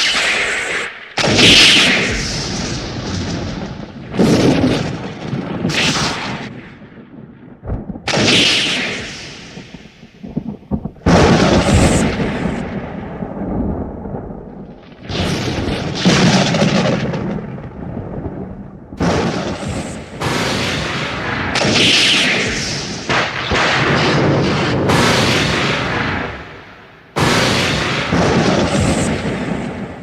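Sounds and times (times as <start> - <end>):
thunder cracks with rumble: 1.2 - 30.0.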